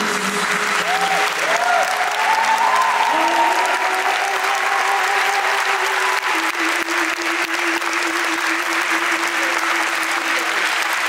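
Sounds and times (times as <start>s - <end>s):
audience applauding: 0.0s - 11.0s
music holding a long note: 0.0s - 11.0s.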